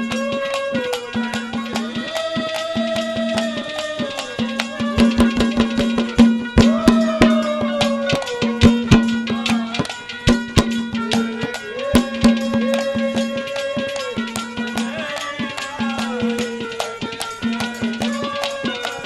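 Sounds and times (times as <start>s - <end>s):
hand drumming on clay pots: 0.0s - 19.0s
held melody line: 0.0s - 19.0s.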